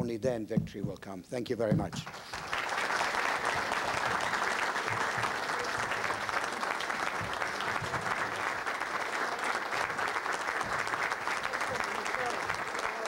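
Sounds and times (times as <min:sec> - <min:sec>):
audience applauding: 0:01.9 - 0:13.0.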